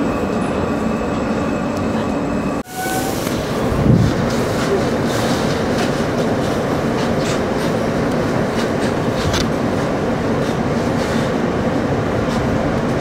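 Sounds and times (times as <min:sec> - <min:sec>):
subway train humming: 0:00.0 - 0:13.0.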